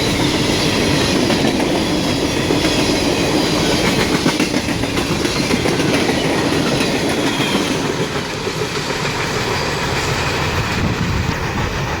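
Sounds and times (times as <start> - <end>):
freight train cars rolling past: 0.0 - 12.0
wheels clicking over rail joints: 0.1 - 12.0.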